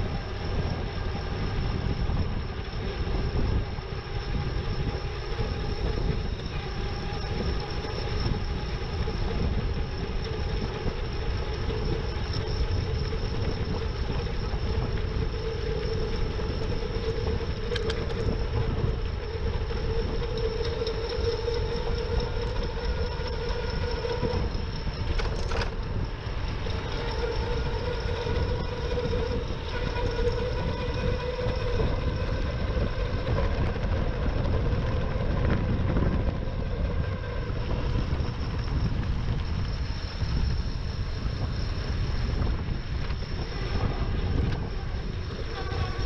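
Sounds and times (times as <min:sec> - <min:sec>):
e-bike motor whine: 0:00.0 - 0:46.0
wind rumble on microphone: 0:00.0 - 0:46.0.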